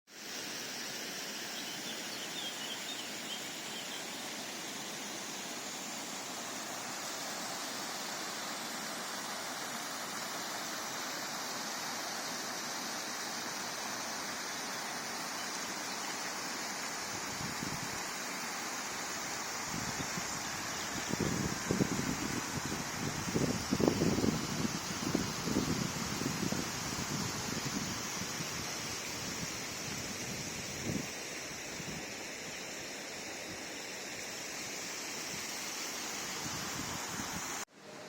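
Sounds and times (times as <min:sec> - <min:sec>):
stream water falling over cascades: 0:00.1 - 0:38.0.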